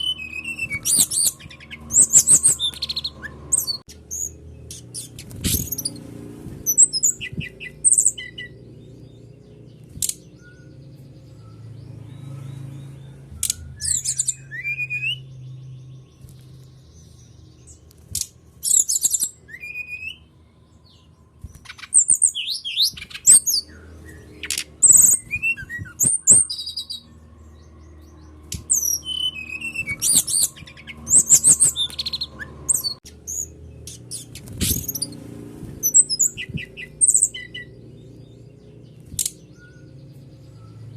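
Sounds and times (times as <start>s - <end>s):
bird singing high quick chirps: 0.0s - 40.9s.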